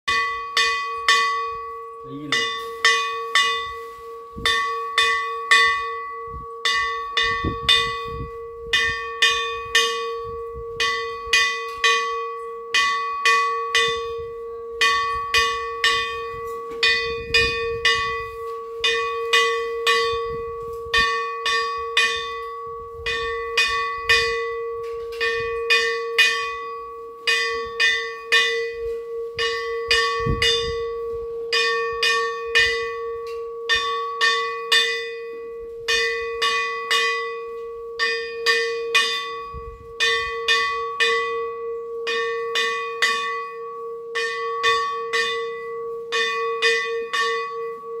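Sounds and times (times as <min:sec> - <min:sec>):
bell ringing hum: 0:00.1 - 0:48.0.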